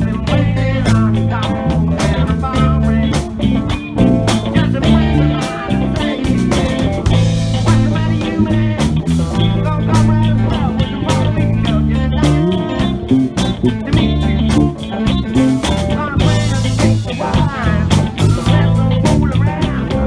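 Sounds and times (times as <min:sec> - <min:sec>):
bass guitar: 0:00.0 - 0:20.0
drum kit beat: 0:00.0 - 0:20.0
electric guitars: 0:00.0 - 0:20.0
sliding guitar lines: 0:00.0 - 0:20.0.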